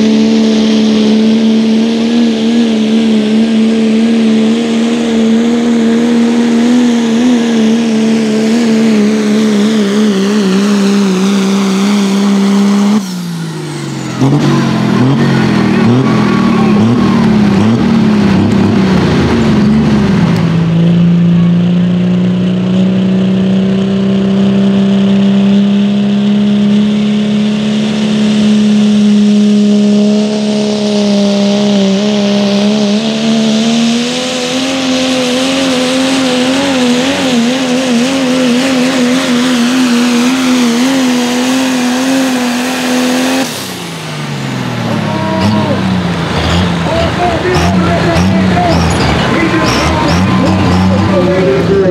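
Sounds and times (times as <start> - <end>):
diesel trucks at full throttle: 0.0 - 51.9.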